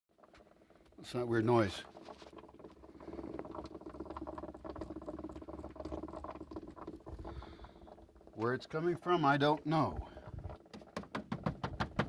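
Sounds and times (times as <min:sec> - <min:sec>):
bubbling crackling engine noise: 0:00.1 - 0:12.0.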